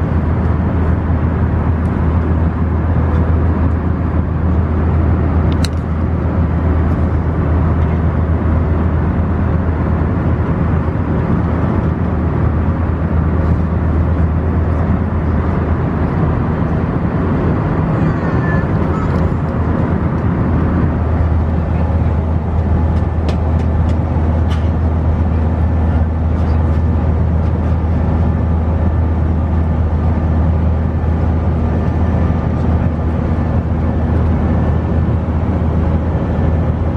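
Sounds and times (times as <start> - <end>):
airliner cabin roar: 0.0 - 36.9.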